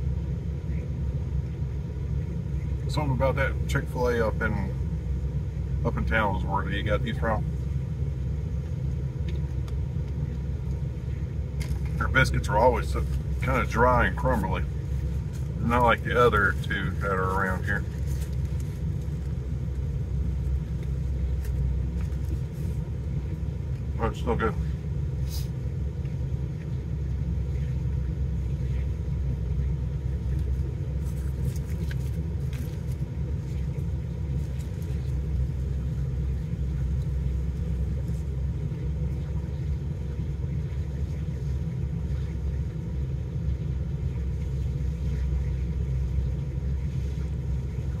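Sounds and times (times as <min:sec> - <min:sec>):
vehicle idling rumble: 0:00.0 - 0:48.0.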